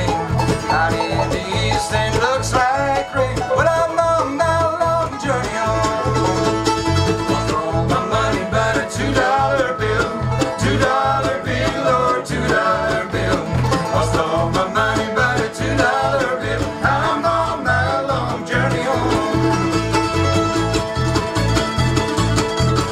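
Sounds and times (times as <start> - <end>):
bass notes keeping a beat: 0.0 - 22.9
bluegrass band playing: 0.0 - 22.9.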